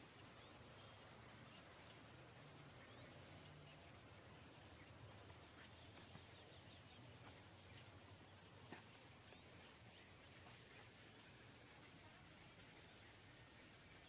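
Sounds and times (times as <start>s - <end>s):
insect chirping: 0.0s - 14.0s.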